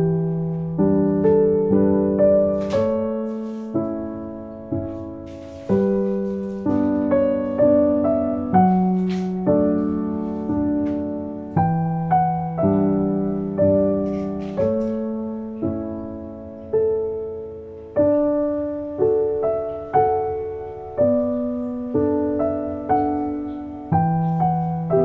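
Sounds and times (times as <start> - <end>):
soft solo piano: 0.0 - 25.0.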